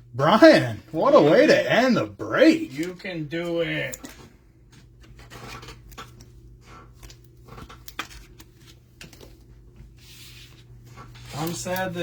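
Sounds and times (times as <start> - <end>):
cards and packaging rustling: 0.4 - 12.0.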